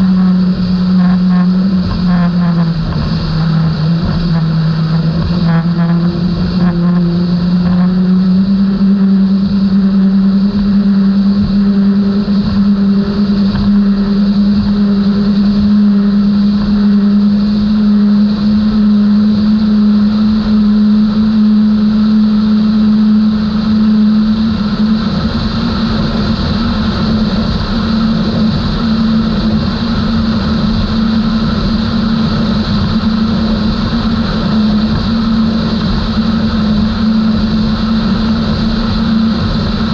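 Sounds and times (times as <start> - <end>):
powerboat engines droning: 0.0 - 39.9
rushing water noise: 0.0 - 39.9.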